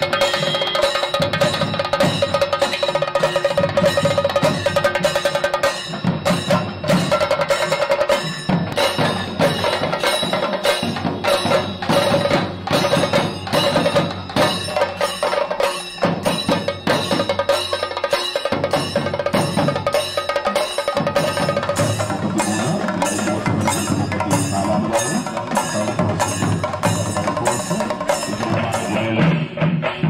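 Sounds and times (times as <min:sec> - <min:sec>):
ringing metallic time-keeping tone: 0:00.0 - 0:29.2
drums beaten with sticks: 0:00.0 - 0:30.0.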